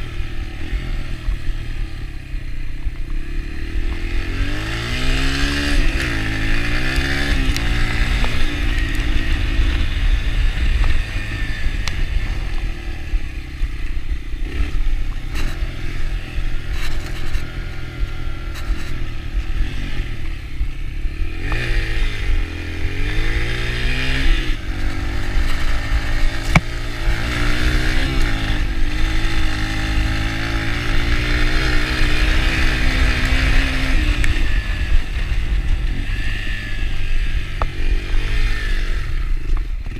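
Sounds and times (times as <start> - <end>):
dirt bike engine revving: 0.0 - 39.9
steady low rumble: 0.0 - 39.9.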